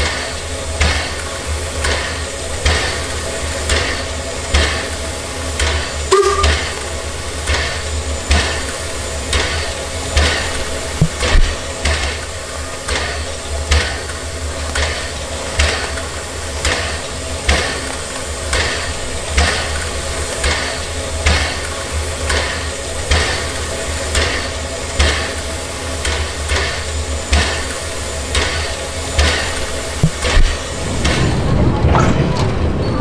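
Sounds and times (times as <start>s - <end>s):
steam locomotive hissing: 0.0s - 31.7s.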